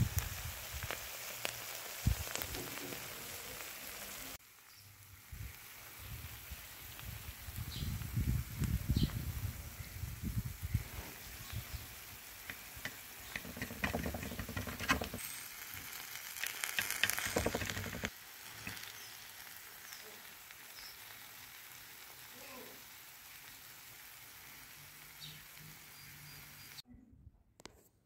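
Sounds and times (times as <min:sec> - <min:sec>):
faint steady hiss: 0:00.0 - 0:26.8.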